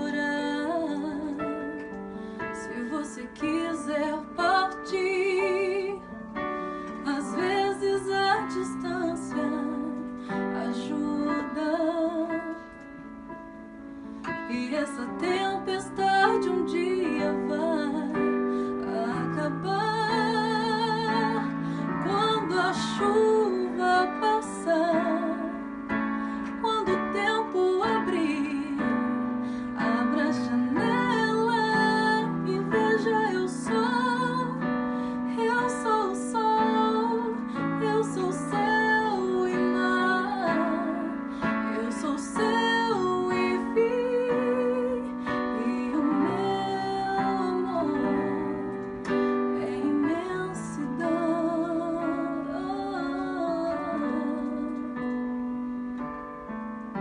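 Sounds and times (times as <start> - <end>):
woman singing: 0.0 - 6.2, 6.9 - 12.8, 14.4 - 55.2
piano accompaniment: 0.0 - 57.0.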